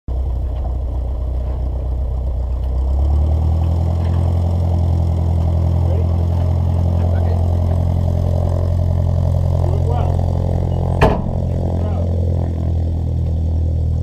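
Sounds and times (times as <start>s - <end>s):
piston plane engine running: 0.1s - 14.0s.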